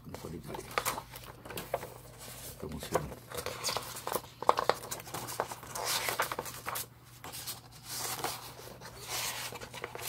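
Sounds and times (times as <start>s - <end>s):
paper rustling slide: 0.8s - 10.0s.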